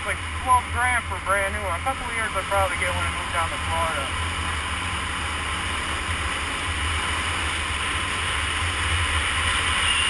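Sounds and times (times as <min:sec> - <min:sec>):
motorcycle low rumble: 0:00.0 - 0:10.0.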